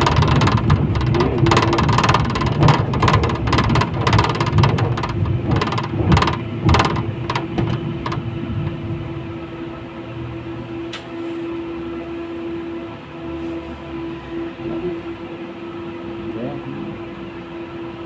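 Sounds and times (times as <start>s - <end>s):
tram rumbling on track: 0.0s - 17.3s
steady whine: 0.0s - 17.7s.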